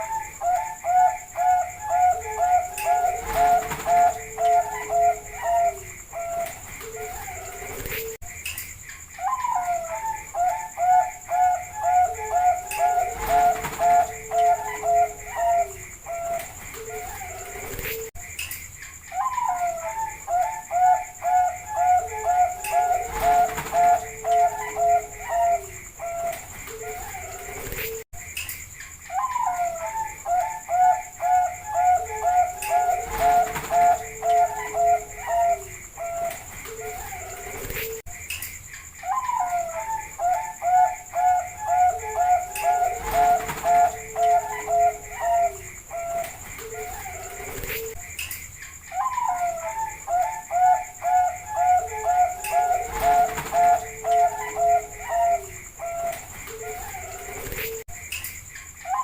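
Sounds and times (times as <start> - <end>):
dove cooing song: 0.0 - 8.2, 9.2 - 18.1, 19.1 - 28.0, 29.1 - 38.0, 39.0 - 48.0, 48.9 - 57.8.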